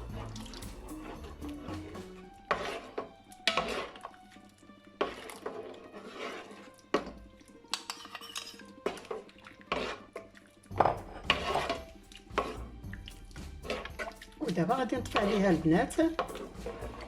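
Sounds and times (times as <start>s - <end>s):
utensil scraping a cooking pot: 0.0s - 17.0s.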